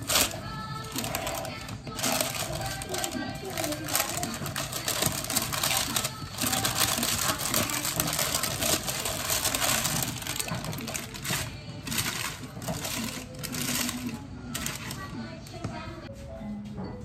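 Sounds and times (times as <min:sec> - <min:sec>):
parchment paper crinkling: 0:00.0 - 0:15.2.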